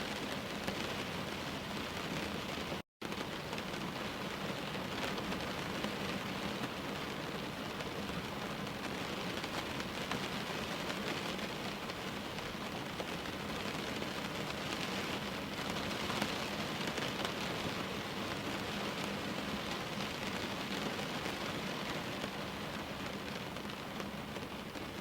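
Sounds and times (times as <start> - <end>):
steady rain pattering: 0.0 - 25.0.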